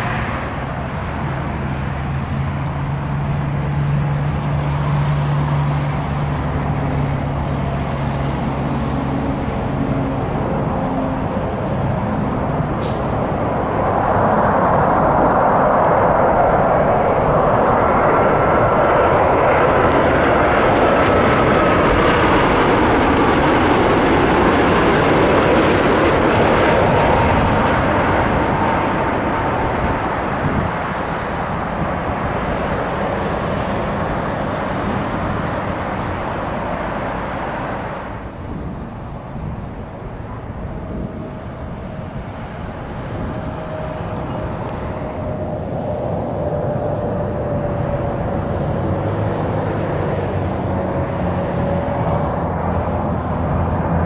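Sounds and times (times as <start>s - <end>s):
jet plane passing overhead: 0.0s - 54.0s.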